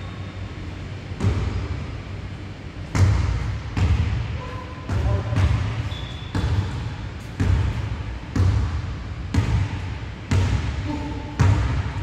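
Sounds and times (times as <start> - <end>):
basketball bouncing on gym floor: 1.2 - 1.9, 2.8 - 12.0.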